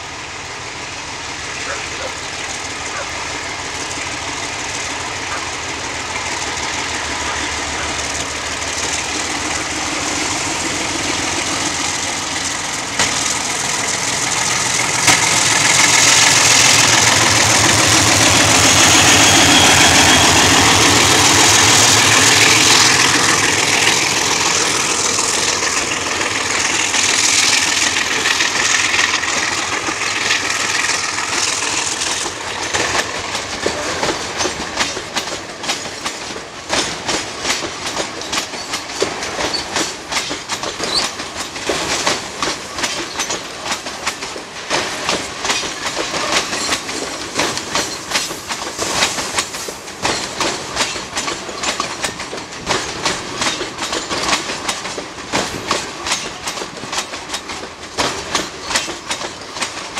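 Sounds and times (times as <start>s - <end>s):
diesel locomotive passing: 0.0s - 59.9s
train wheels clacking over rail joints: 0.0s - 59.9s.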